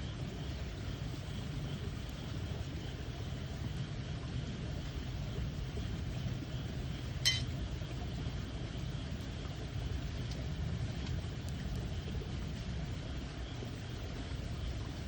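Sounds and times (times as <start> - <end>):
campfire burning: 0.0 - 15.0
stream water flowing: 0.1 - 15.0.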